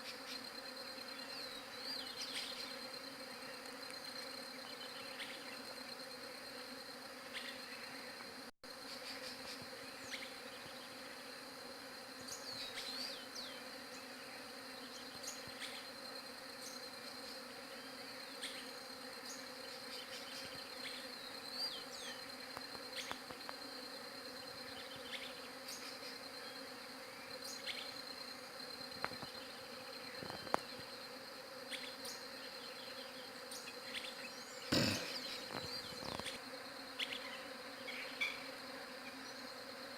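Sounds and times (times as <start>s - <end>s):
bees buzzing: 0.1s - 39.9s.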